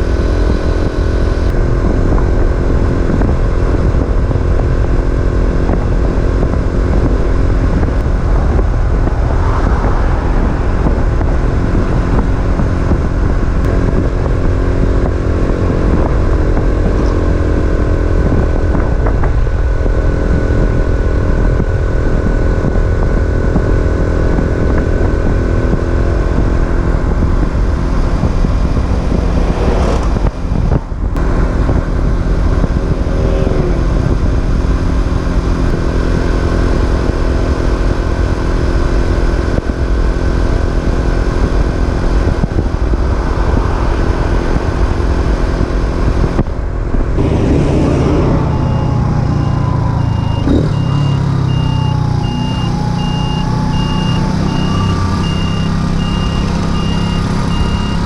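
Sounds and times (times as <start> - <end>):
wind buffeting microphone: 0.0 - 51.5
moped engine cruising: 0.0 - 58.0.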